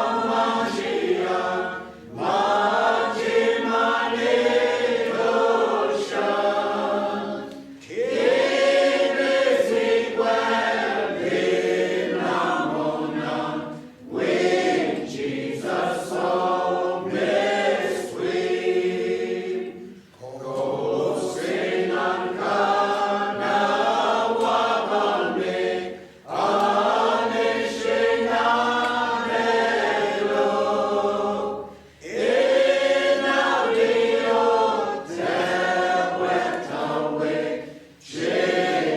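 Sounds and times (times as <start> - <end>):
choir singing a hymn: 0.0 - 38.9.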